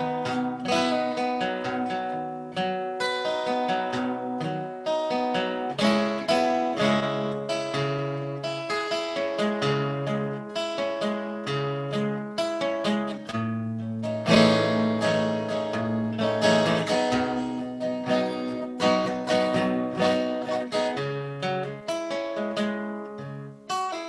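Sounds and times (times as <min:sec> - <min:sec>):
acoustic guitar: 0:00.0 - 0:24.0.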